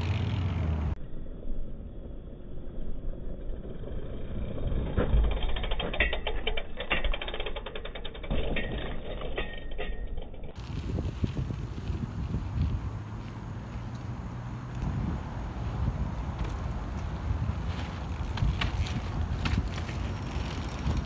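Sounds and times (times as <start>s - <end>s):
bike freewheel hub ticking: 0.0s - 0.8s, 3.4s - 21.0s.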